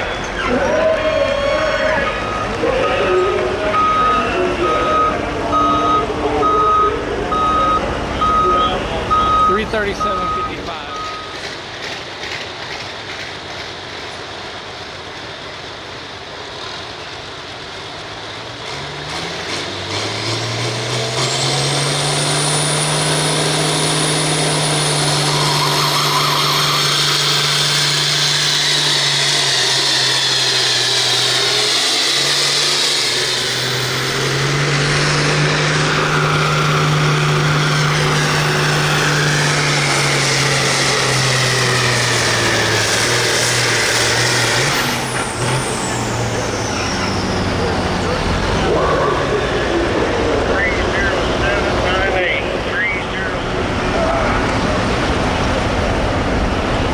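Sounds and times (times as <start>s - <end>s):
diesel tractor engine at full throttle: 0.0s - 56.9s.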